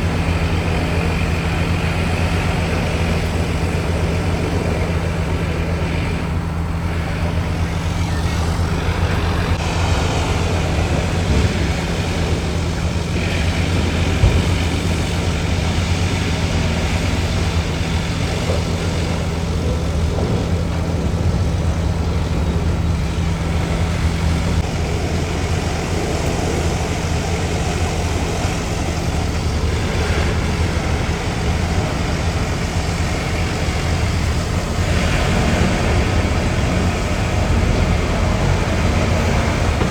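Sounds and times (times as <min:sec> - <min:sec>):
road noise: 0:00.0 - 0:39.9
truck diesel engine droning: 0:00.0 - 0:39.9.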